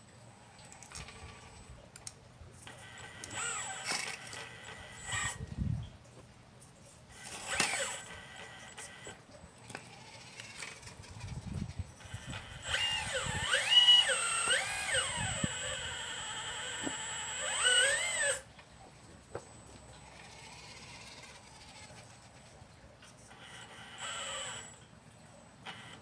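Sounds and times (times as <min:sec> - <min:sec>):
model excavator motors whining: 0:00.7 - 0:05.6, 0:07.1 - 0:26.0.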